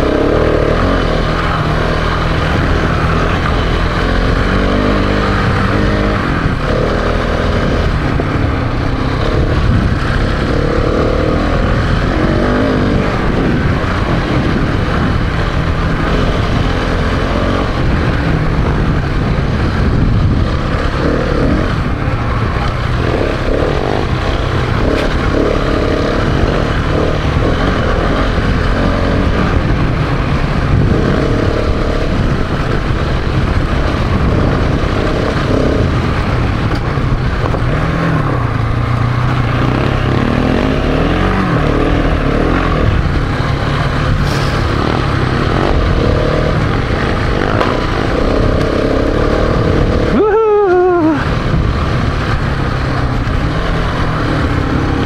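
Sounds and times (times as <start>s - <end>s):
motorcycle engine revving: 0.0s - 55.0s
steady rushing noise: 0.0s - 55.0s.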